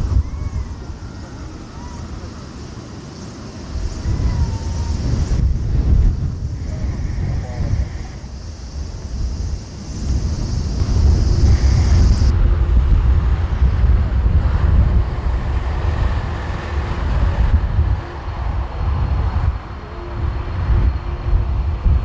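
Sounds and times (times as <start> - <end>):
jet engines: 0.0 - 22.0
wind buffeting microphone: 0.0 - 22.0.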